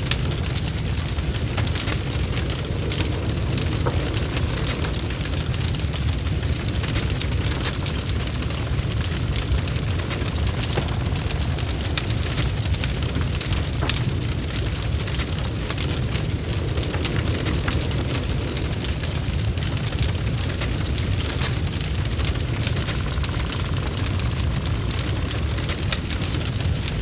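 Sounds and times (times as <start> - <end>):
bonfire crackling: 0.0 - 27.0.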